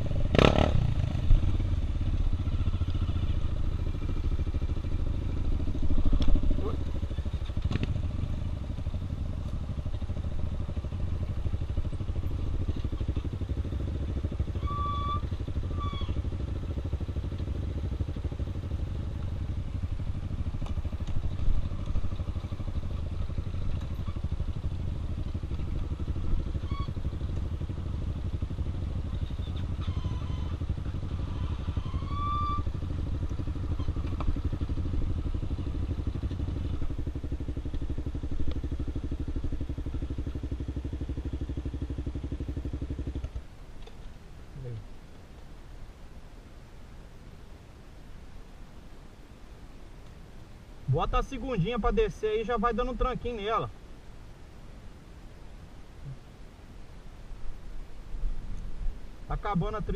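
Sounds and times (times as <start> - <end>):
motorcycle engine running: 0.0 - 46.4, 48.8 - 59.9.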